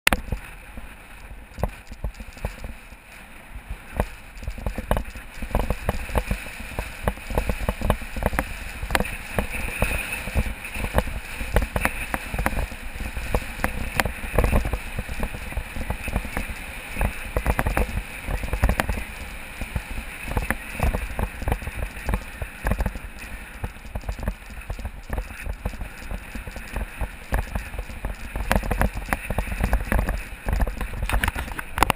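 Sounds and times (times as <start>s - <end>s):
bicycle rattles and knocks: 0.1s - 31.9s
wind rumbling on microphone: 0.1s - 31.9s.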